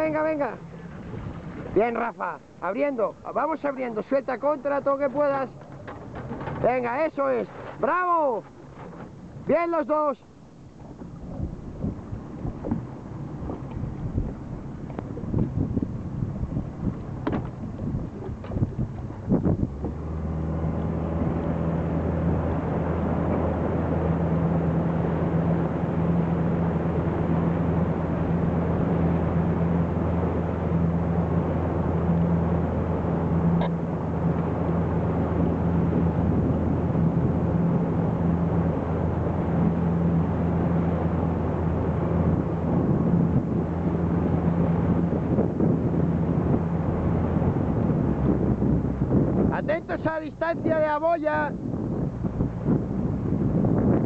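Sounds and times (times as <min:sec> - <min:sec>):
motorboat engine humming: 0:00.0 - 0:54.0
water noise: 0:00.0 - 0:54.0
wind: 0:00.0 - 0:54.0.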